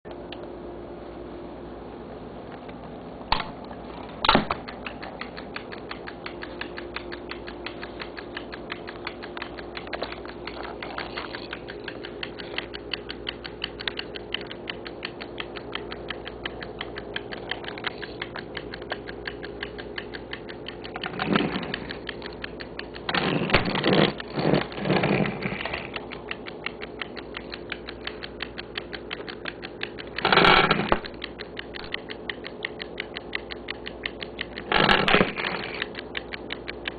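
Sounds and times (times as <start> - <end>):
clockwork fast ticking: 4.6 - 36.9.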